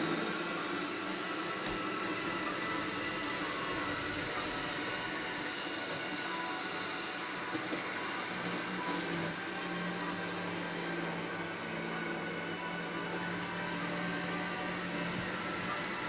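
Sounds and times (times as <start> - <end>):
robot vacuum running: 0.0 - 16.0.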